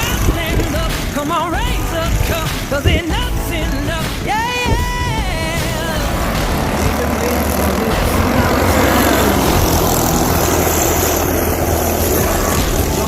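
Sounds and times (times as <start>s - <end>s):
go-kart engines droning: 0.0s - 13.0s.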